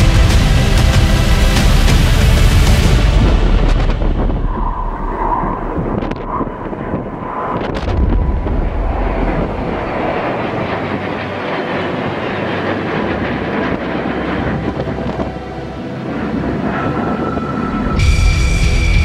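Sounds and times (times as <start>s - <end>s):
fighter jets flying overhead: 0.0s - 19.0s
wind buffeting microphone: 2.8s - 18.4s.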